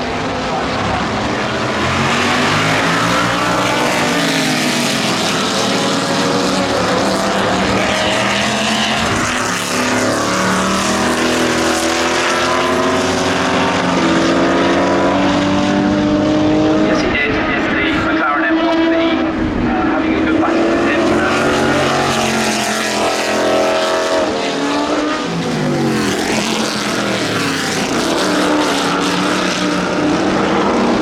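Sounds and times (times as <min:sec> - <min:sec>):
racing engine accelerating: 0:00.0 - 0:31.0.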